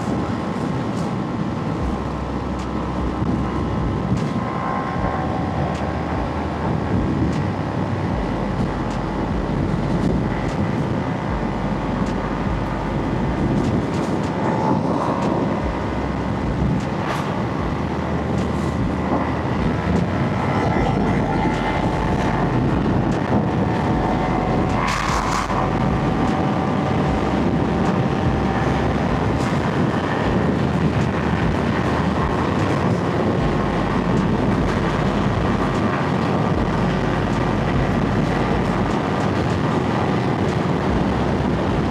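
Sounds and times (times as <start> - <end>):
constant rushing noise: 0.0 - 41.9
motorcycle engine running: 1.8 - 41.9.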